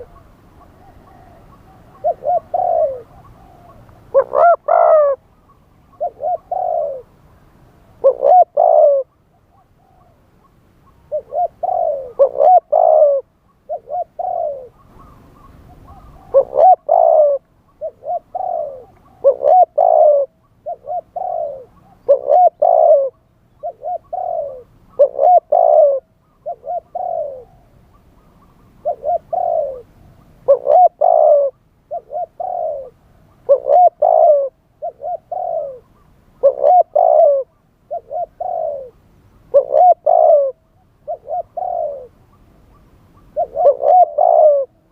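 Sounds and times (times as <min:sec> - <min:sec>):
dove cooing: 0:00.0 - 0:07.2, 0:08.0 - 0:44.9.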